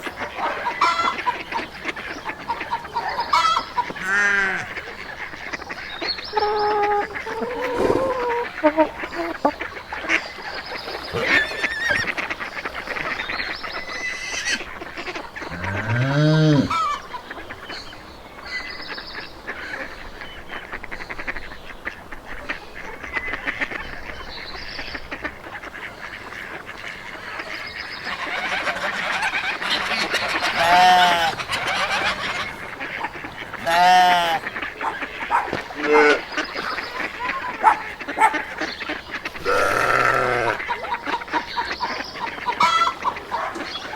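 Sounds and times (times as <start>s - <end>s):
geese honking: 0.0s - 43.9s.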